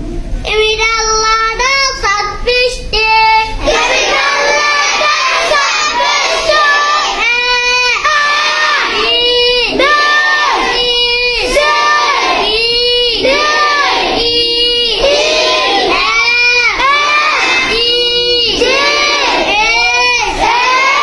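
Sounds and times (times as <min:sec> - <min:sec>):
boys chanting in unison: 0:03.6 - 0:21.0.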